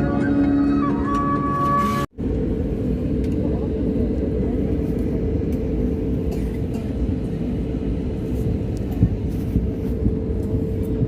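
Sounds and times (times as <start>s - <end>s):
airliner cabin rumble: 0.0s - 11.0s
constant hum: 0.0s - 11.0s.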